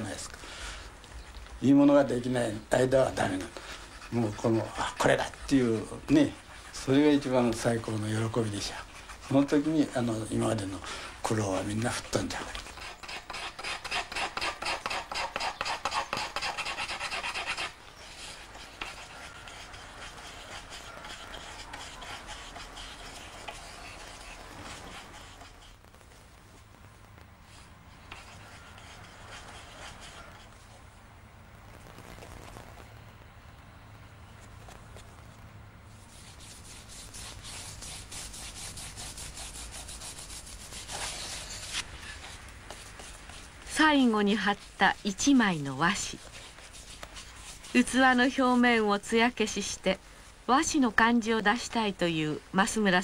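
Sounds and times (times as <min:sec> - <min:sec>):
brush scratchy rubbing: 0:02.0 - 0:26.7, 0:27.4 - 0:30.8, 0:34.4 - 0:49.8.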